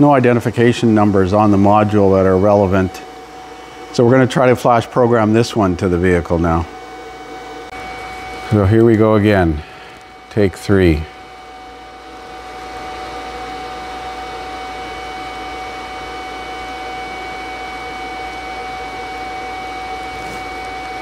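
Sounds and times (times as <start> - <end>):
machine whirring with hum: 0.0 - 21.0.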